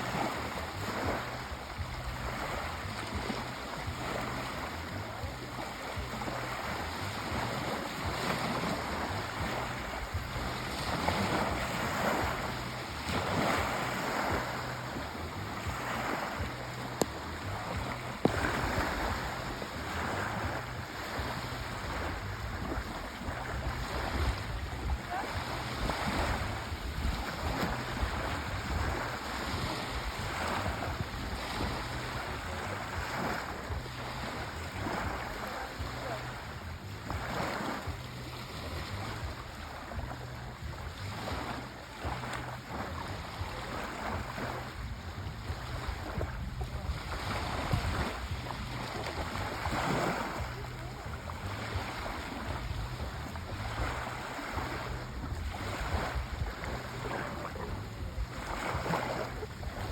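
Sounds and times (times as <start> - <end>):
sea waves washing ashore: 0.0 - 59.9.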